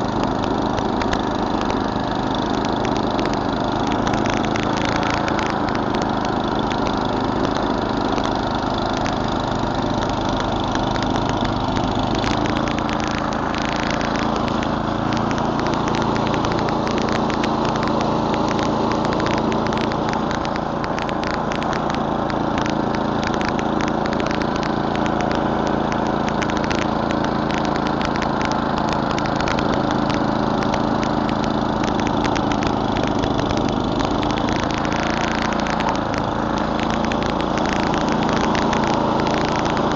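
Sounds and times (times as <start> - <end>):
sharp ticks: 0.0 - 39.9
snowblower engine running: 0.0 - 39.9.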